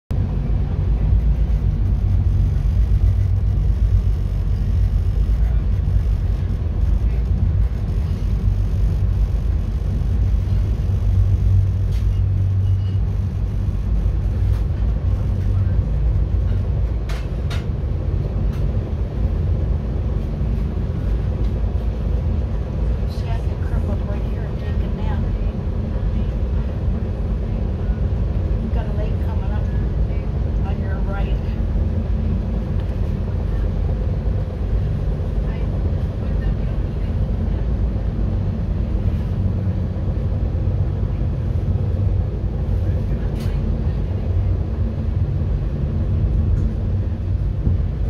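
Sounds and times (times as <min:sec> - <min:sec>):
train wheels rumbling on track: 0:00.1 - 0:48.0.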